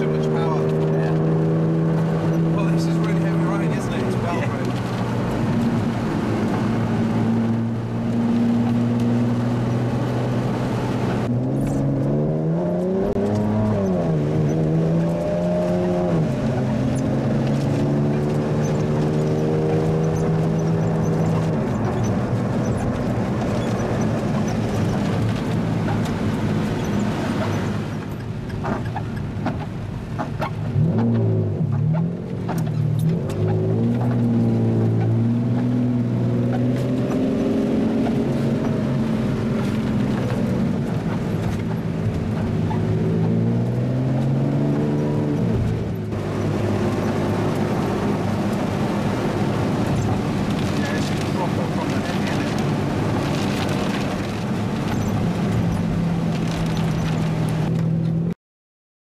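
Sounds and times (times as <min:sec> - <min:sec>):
car engine revving: 0:00.0 - 0:58.4.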